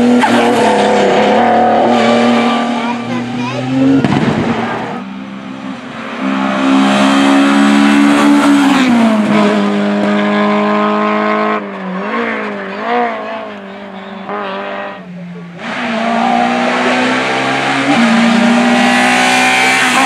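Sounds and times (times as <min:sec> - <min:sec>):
car engine revving high: 0:00.0 - 0:20.0.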